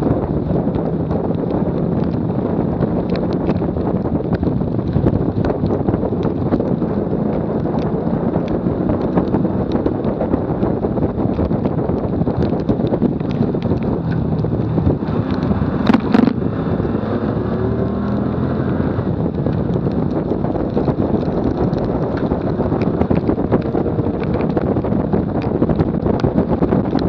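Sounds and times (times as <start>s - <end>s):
road and tyre noise: 0.0s - 27.0s
wind buffeting microphone: 0.0s - 27.0s.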